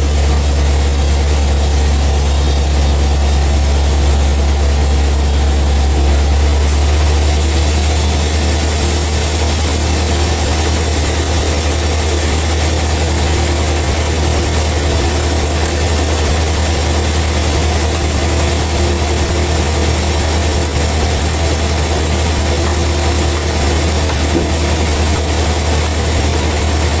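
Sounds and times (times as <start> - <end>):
heavy engine humming: 0.0 - 27.0.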